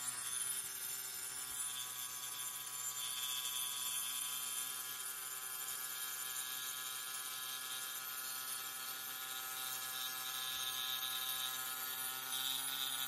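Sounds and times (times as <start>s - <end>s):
angle grinder cutting concrete: 0.0s - 13.0s.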